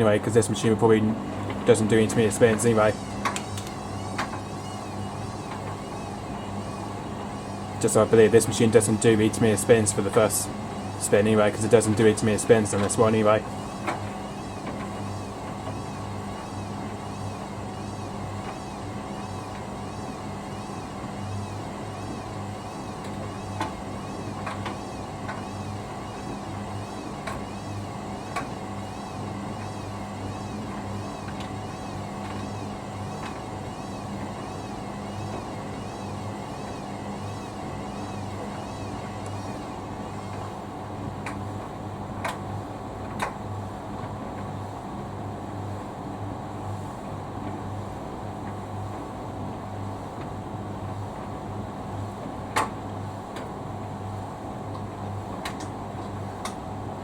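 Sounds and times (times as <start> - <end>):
washing machine motor humming: 0.0 - 57.0.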